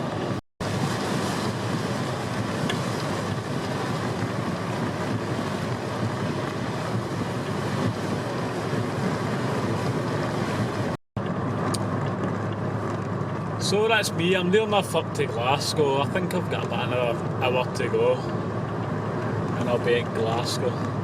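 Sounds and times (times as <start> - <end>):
tyre noise on wet road: 0.0 - 21.0.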